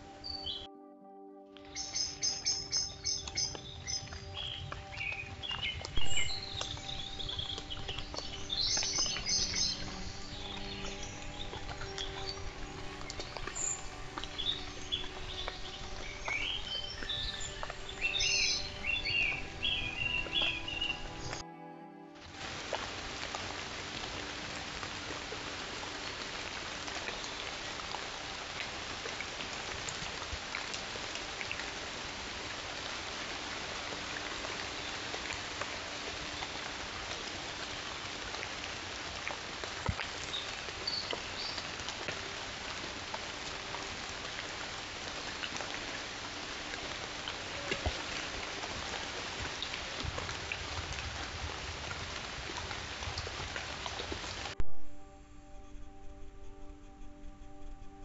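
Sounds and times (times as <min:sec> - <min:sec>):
steady rain falling: 0:01.6 - 0:21.4, 0:22.2 - 0:54.6.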